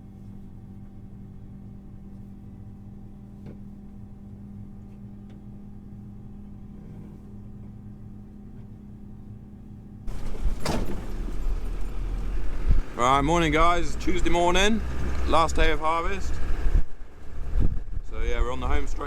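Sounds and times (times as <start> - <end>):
rough outdoor noise: 0.0 - 19.0
vehicle engine hum: 0.0 - 19.0.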